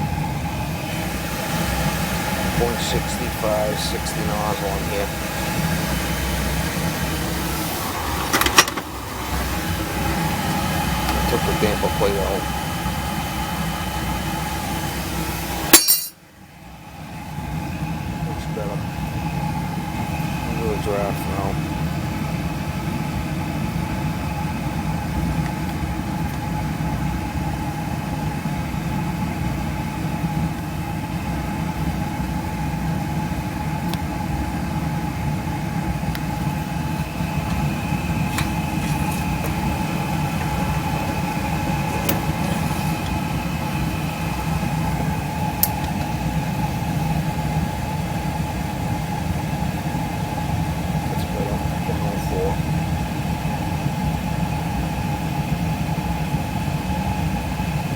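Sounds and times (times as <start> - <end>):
oil burner humming and rumbling: 0.0 - 57.9.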